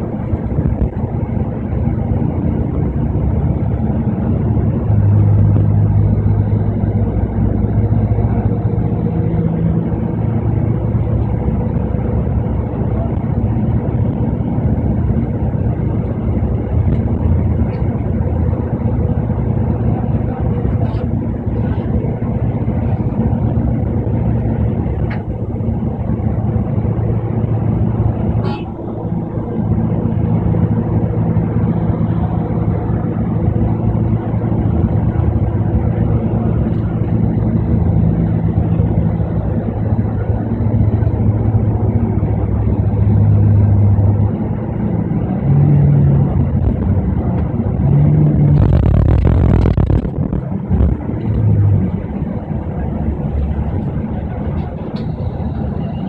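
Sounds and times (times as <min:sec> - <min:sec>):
bus engine and road noise: 0:00.0 - 0:56.0
rush of noise: 0:00.0 - 0:56.0.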